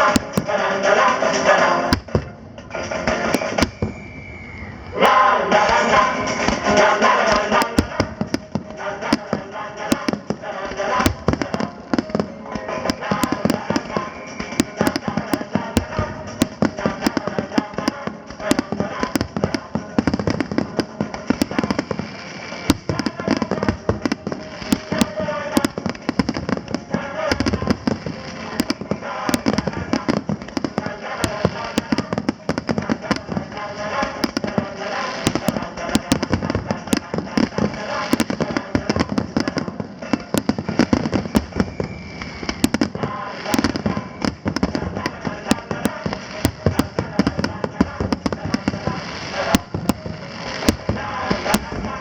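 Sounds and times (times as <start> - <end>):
music: 0.0 - 3.8, 4.7 - 52.0
fireworks bangs and crackles: 0.0 - 52.0.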